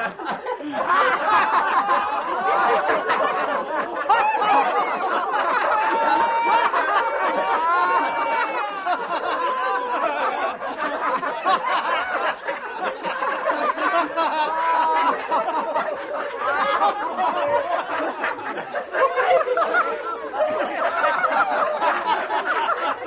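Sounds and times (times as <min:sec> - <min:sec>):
people laughing: 0:00.0 - 0:23.0.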